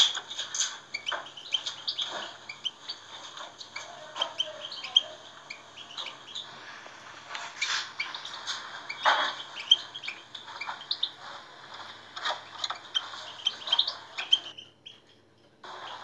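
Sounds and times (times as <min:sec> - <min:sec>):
goldfinch twittering: 0:00.0 - 0:14.6.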